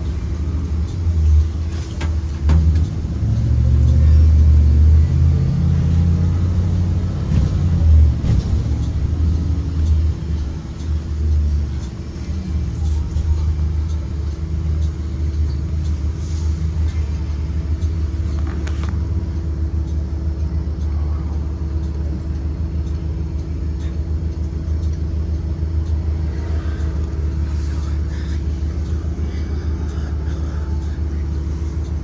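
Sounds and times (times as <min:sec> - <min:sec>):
bus engine and road rumble: 0:00.0 - 0:32.0
constant hum: 0:00.0 - 0:32.0.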